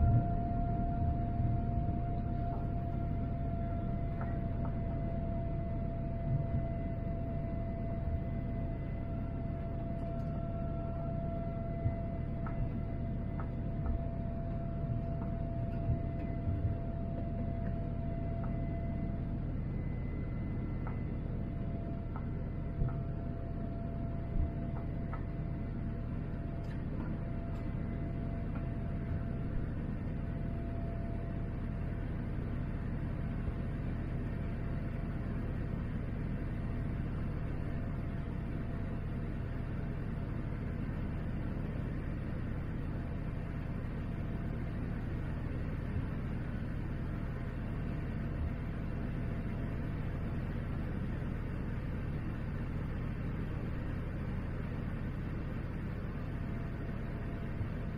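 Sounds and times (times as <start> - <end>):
airplane cabin engine roar: 0.0 - 57.9
faint steady whine: 0.0 - 57.9.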